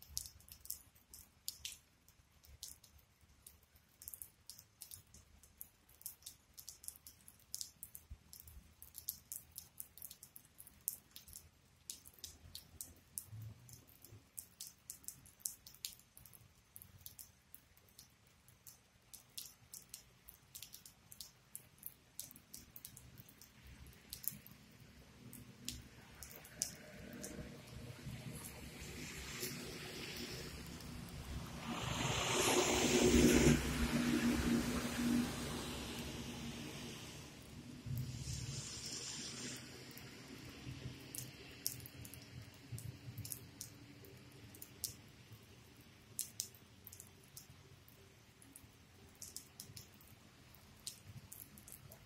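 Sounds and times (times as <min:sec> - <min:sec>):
water drops ticking on hard surface: 0:00.0 - 0:31.4, 0:37.9 - 0:52.0.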